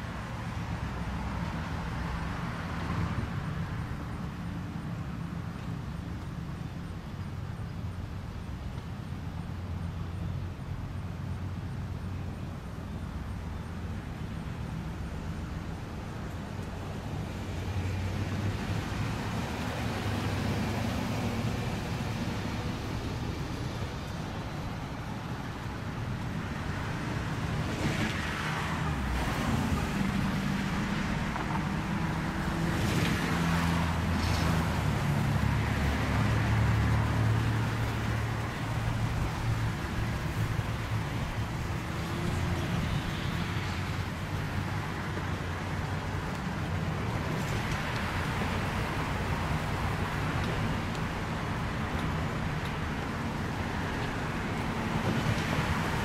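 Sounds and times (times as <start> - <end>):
background road noise: 0.0 - 56.0.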